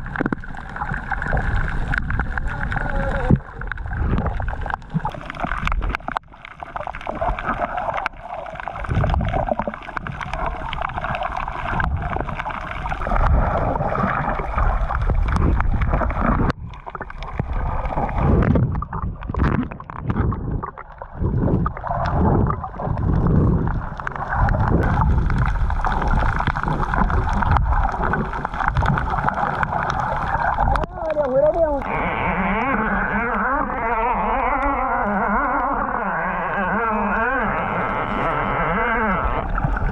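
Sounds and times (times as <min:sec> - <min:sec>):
muffled underwater gurgling: 0:00.0 - 0:39.9.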